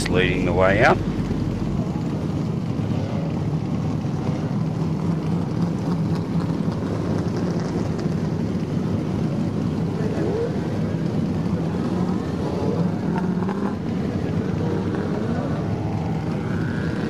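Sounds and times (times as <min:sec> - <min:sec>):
many car engines droning: 0:00.0 - 0:17.0.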